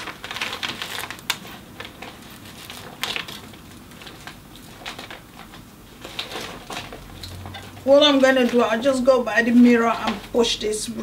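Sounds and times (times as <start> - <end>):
stiff fabric rustling and crinkling: 0.0 - 11.0.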